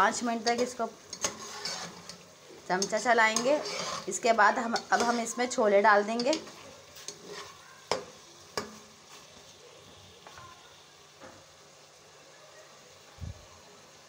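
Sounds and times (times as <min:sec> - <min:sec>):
faint frying sizzle: 0:00.0 - 0:14.0.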